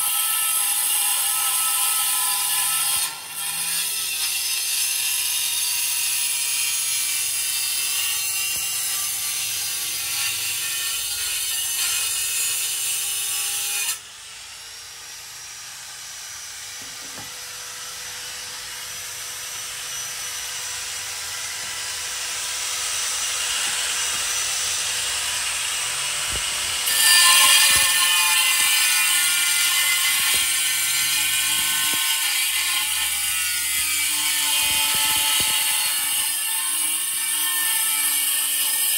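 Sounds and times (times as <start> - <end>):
angle grinder cutting tile: 0.0 - 38.9.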